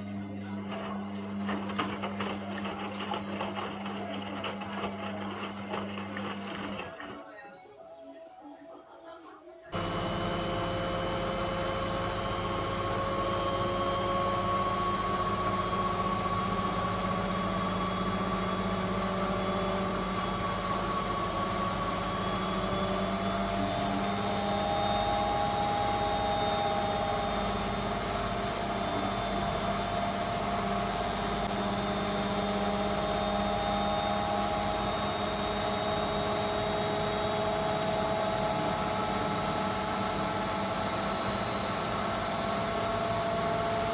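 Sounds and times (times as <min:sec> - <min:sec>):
washing machine spinning: 0:00.0 - 0:07.2, 0:09.7 - 0:43.9.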